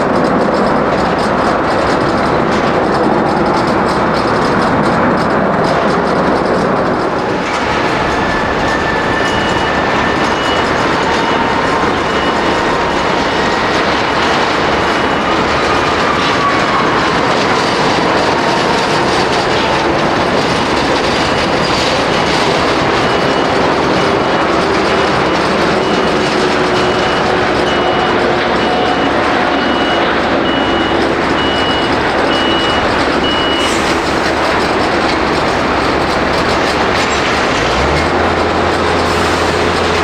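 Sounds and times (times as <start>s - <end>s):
jet engine whine: 0.0s - 40.0s
jet engines roaring: 0.0s - 40.0s.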